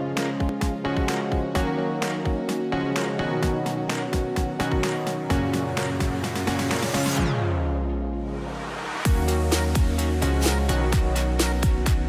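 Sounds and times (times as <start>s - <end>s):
electronic music with bass: 0.0s - 12.0s.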